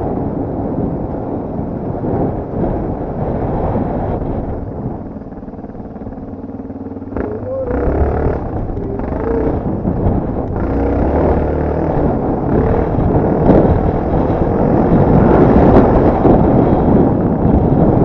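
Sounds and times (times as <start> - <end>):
wind rushing over microphone: 0.0 - 18.0
dirt bike engine revving: 3.4 - 17.9.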